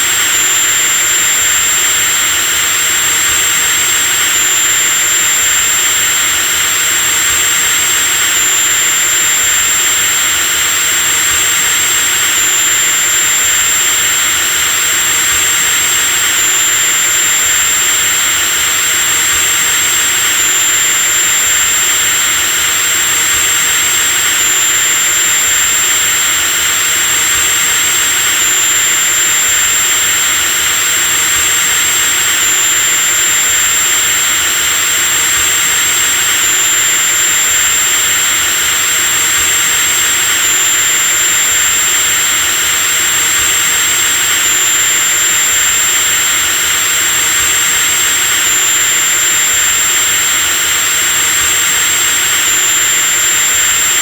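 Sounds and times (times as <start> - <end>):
electric drill motor whine: 0.0 - 54.0.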